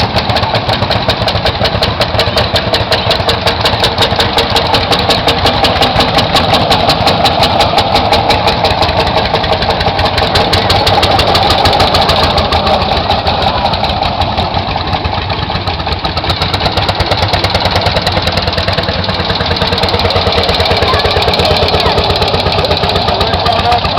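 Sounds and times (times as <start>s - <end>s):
tractor engine idling: 0.0s - 23.9s.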